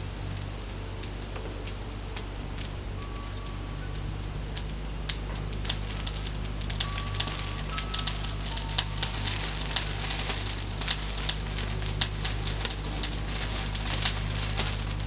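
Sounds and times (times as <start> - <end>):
charcoal crackling and popping: 0.0 - 15.0
low hum: 0.0 - 15.0.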